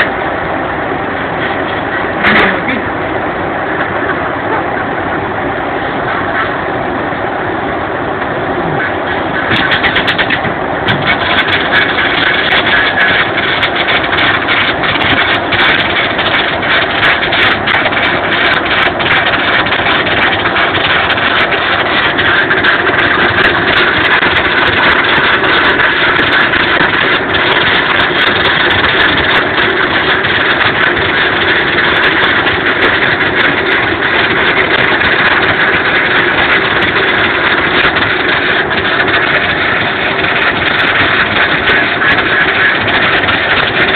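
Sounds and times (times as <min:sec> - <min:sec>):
machine hum: 0:00.0 - 0:43.9
welding arc sizzling and crackling: 0:08.2 - 0:43.9.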